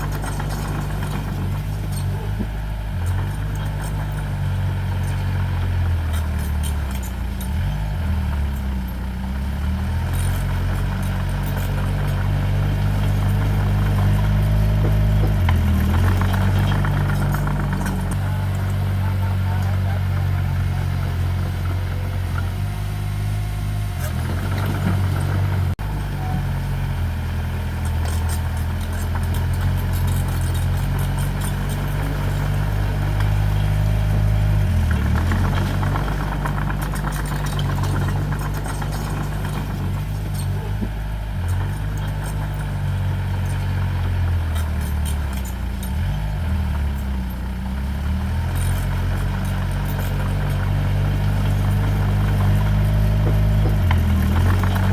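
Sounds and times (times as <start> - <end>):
light clicks and clanks: 0.0 - 22.5, 27.7 - 54.9
diesel engine of earthmoving machine: 0.0 - 54.9.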